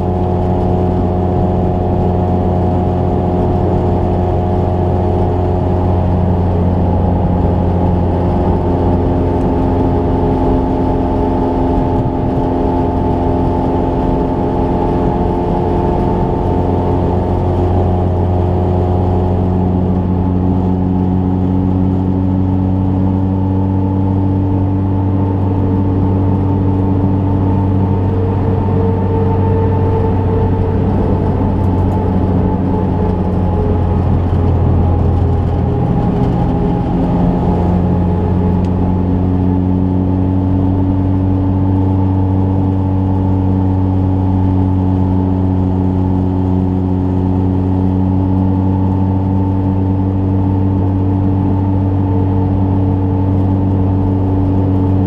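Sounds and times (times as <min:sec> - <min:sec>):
car engine running steadily: 0:00.0 - 0:55.0
road noise: 0:00.0 - 0:55.0.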